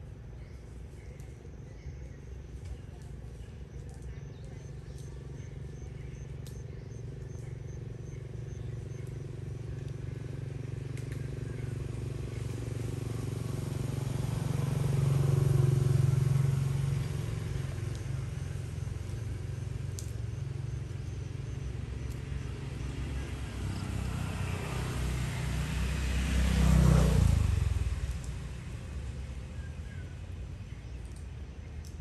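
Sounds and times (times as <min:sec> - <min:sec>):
vehicle engines passing: 0:02.4 - 0:32.0.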